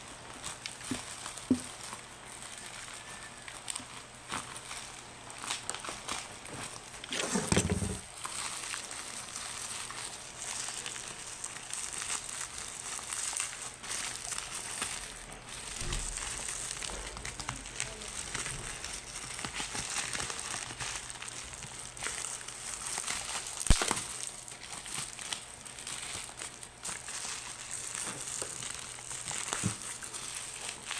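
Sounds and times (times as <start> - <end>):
packaging crinkling: 0.0 - 30.9.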